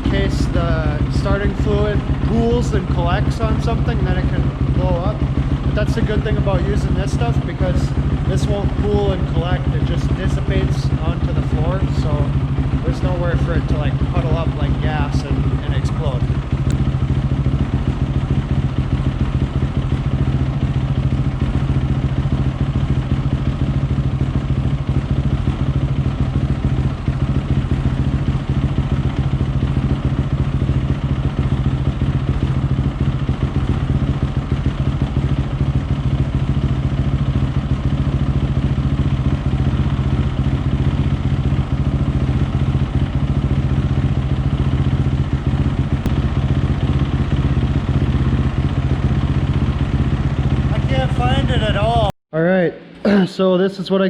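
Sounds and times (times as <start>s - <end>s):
motorcycle engine idling: 0.0s - 52.1s.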